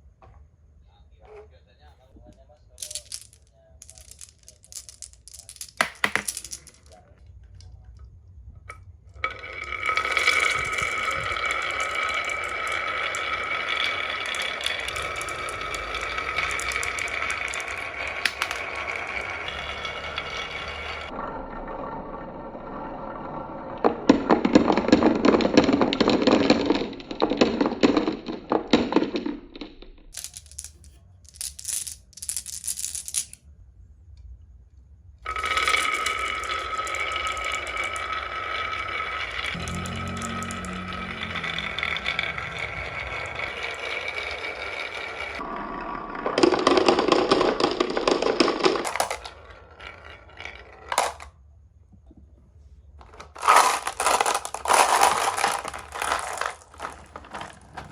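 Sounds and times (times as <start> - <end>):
marbles rattling down a track: 2.7 - 7.1, 9.1 - 21.2, 22.8 - 29.1, 30.1 - 33.4, 35.2 - 51.3, 53.0 - 57.9.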